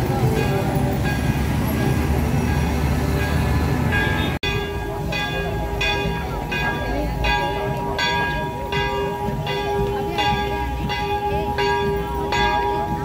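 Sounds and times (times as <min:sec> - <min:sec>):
church bell ringing: 0:00.0 - 0:13.0
crowd noise: 0:00.0 - 0:13.0.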